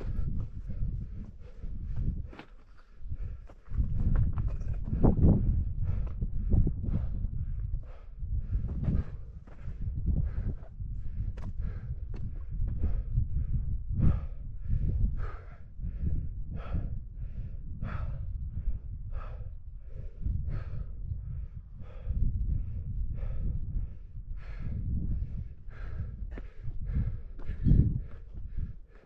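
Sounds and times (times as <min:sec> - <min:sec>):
person breathing hard: 0:00.0 - 0:04.2, 0:04.9 - 0:29.0
wind rumble on microphone: 0:00.0 - 0:29.0.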